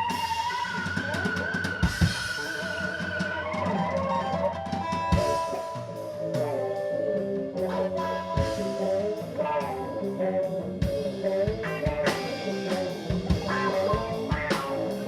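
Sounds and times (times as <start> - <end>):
drum kit: 0.0 - 15.0
sustained electric guitar: 0.0 - 15.0.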